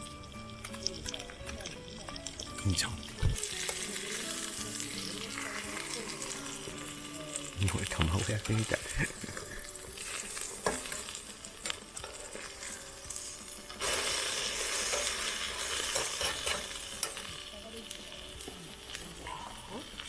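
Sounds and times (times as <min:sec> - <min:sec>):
toast sizzling in a frying pan: 0:00.0 - 0:20.0.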